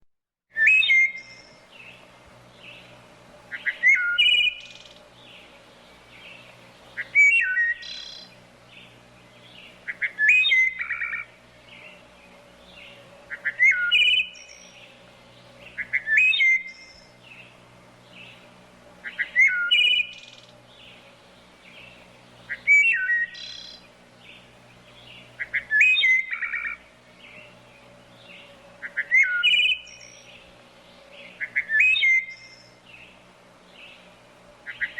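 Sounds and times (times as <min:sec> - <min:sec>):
songbird singing whistled notes: 0:00.5 - 0:34.9.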